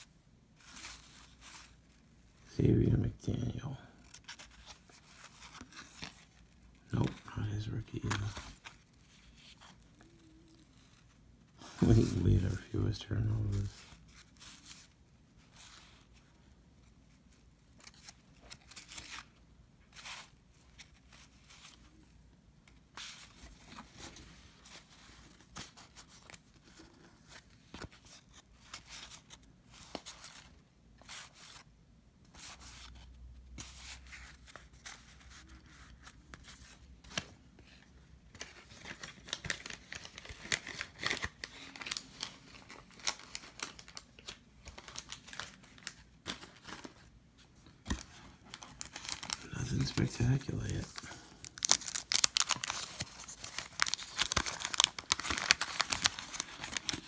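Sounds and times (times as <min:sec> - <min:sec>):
cards and paper wrappers rustling: 0:00.0 - 0:31.7, 0:32.3 - 0:57.0.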